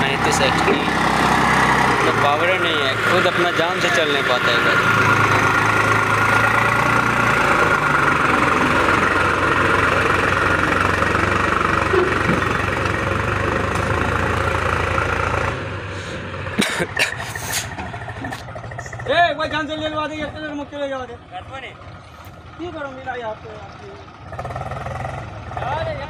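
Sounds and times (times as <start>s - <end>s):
tractor diesel engine labouring: 0.0s - 26.0s.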